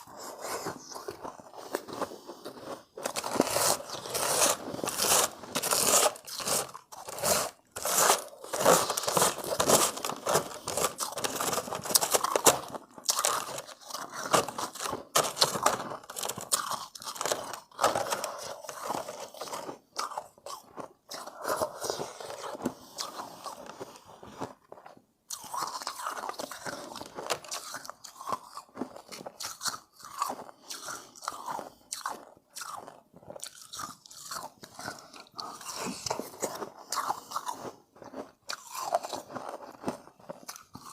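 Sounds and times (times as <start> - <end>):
crunching ice chewing: 0.0 - 40.9.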